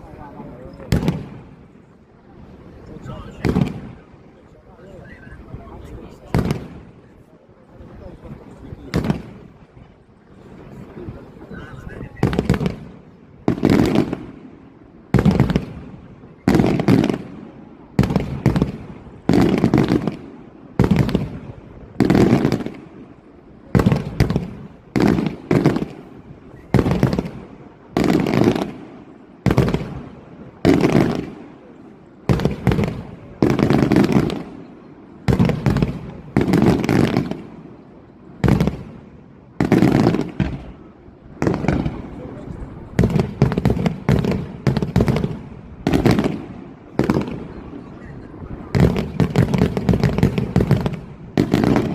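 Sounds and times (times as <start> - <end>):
fireworks bangs: 0.0 - 51.9.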